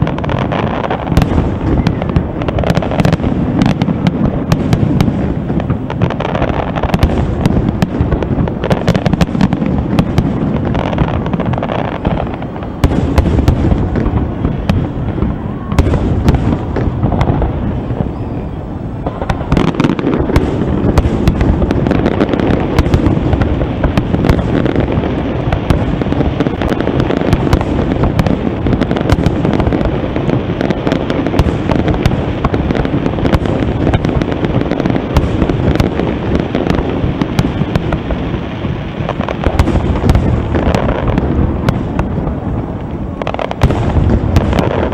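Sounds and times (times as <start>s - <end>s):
fireworks bangs and cracks: 0.0s - 44.9s.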